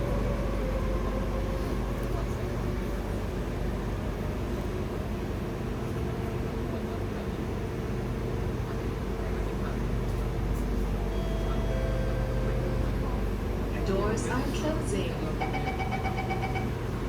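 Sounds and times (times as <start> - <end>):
low hum inside metro car: 0.0 - 17.0.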